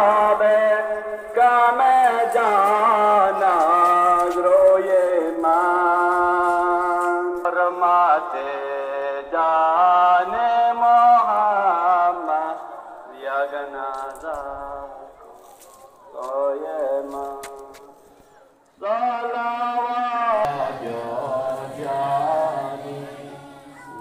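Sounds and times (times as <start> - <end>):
man singing: 0.0 - 15.2, 16.0 - 18.0, 18.8 - 24.0.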